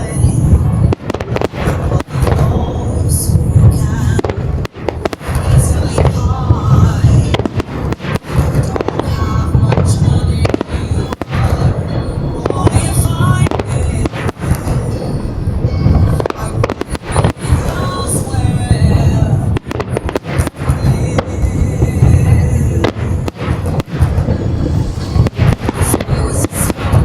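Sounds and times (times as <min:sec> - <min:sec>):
background music: 0:00.0 - 0:27.0
fireworks booming and cracking: 0:00.0 - 0:27.0.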